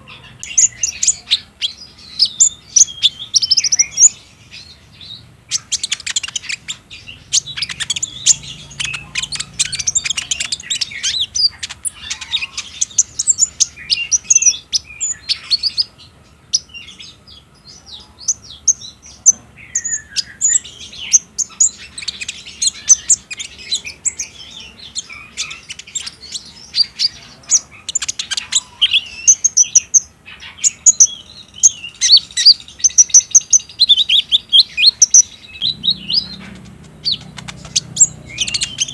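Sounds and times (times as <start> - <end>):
sunbird singing chirps and trills: 0.0 - 38.9.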